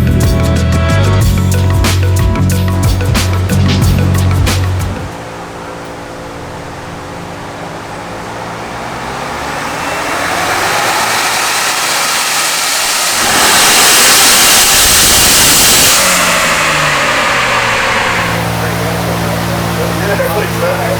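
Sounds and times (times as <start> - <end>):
engine and exhaust revving: 0.0 - 20.9.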